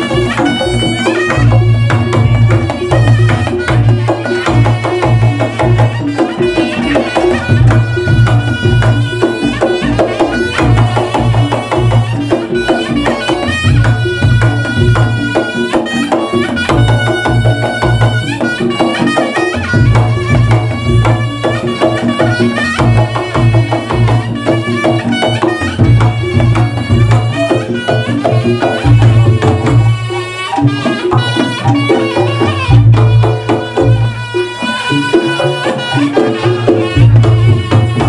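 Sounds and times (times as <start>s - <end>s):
fast drum patterns: 0.0s - 38.0s.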